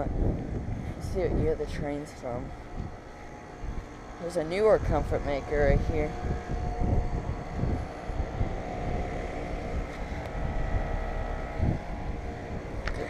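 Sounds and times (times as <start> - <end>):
air conditioner units humming: 0.0 - 13.0
low rumble: 0.0 - 13.0.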